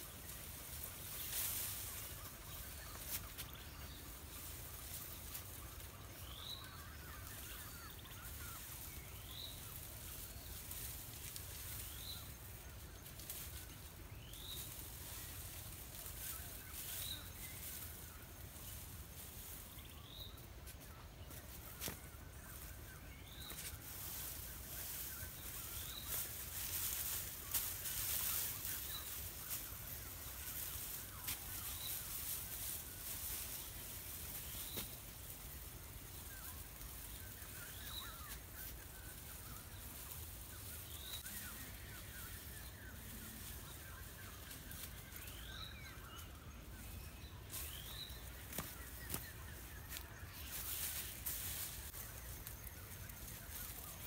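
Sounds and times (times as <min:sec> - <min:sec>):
dry grass thatch rustling: 0:00.0 - 0:54.0.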